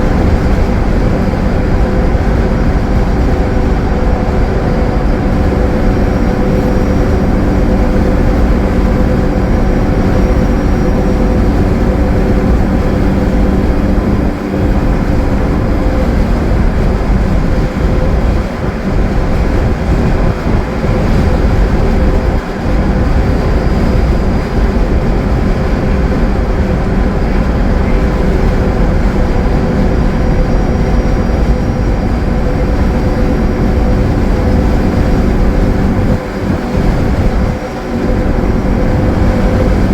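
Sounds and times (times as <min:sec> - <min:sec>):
bus diesel engine droning: 0:00.0 - 0:39.9
road noise: 0:00.0 - 0:39.9.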